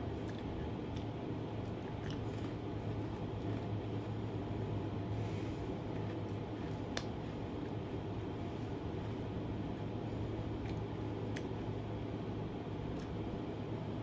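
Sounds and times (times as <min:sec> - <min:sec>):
cookie being bitten and chewed: 0:00.0 - 0:04.6, 0:05.6 - 0:11.8, 0:12.9 - 0:13.3
low room hum: 0:00.0 - 0:14.0.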